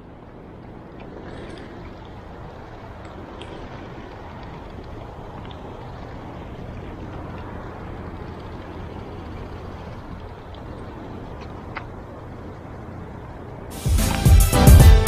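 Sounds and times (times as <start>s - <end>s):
constant low hum: 0.0s - 15.0s
low rumble and hiss: 0.0s - 15.0s.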